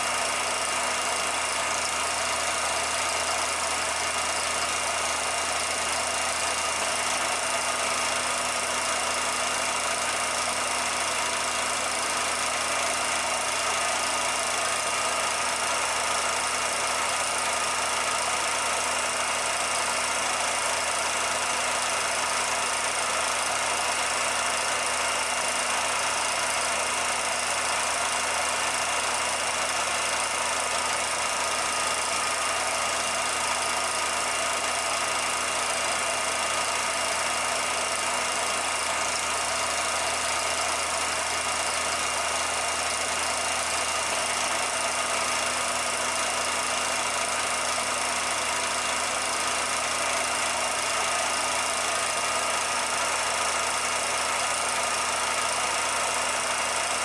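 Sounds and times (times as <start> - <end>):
film projector running: 0.0 - 57.0.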